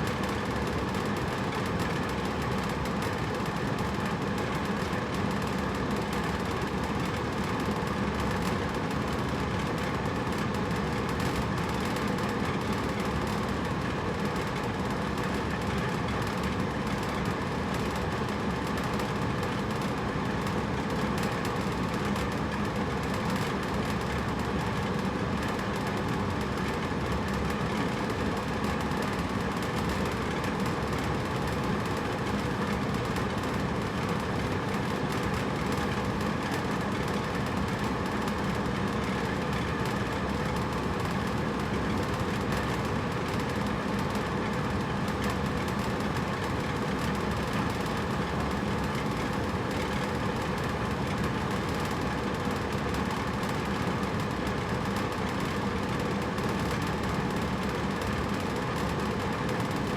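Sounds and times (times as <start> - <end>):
air conditioner humming: 0.0 - 59.9.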